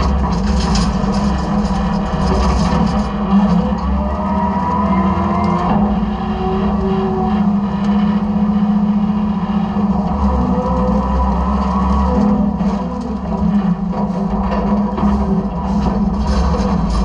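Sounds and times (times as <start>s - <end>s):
hydraulic whine: 0.0s - 17.0s
truck engine drone: 0.0s - 17.0s.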